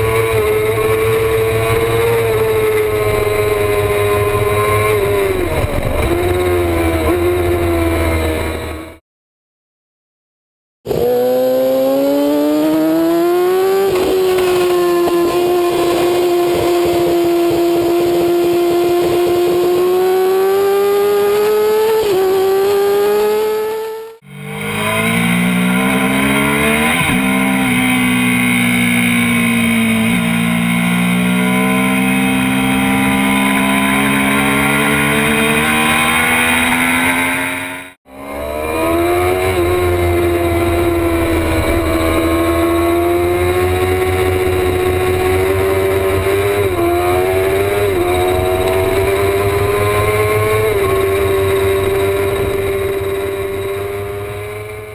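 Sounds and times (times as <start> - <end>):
motorcycle engines revving high: 0.0 - 9.0, 10.9 - 54.9.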